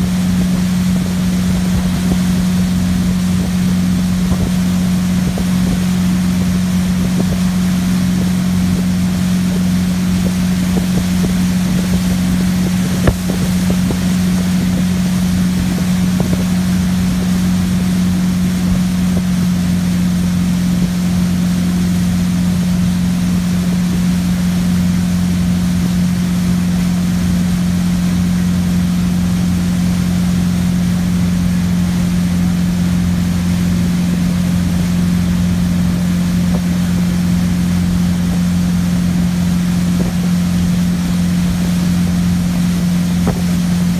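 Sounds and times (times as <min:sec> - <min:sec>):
motorboat engine running: 0:00.0 - 0:43.9.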